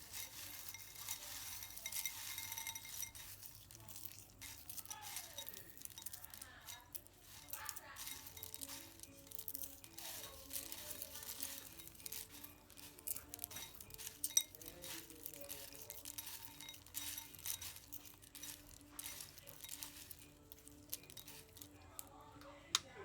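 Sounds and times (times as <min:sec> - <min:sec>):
peanuts clicking and rustling: 0:00.0 - 0:23.0
soft background music: 0:00.0 - 0:23.0.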